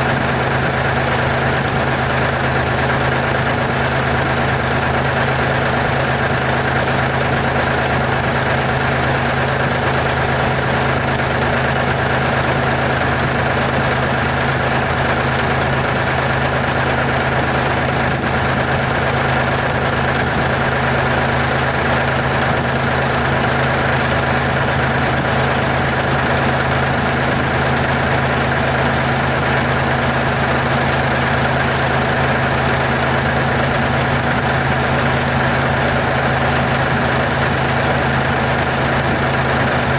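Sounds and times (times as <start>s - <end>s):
dump truck diesel engine idling: 0.0s - 39.9s.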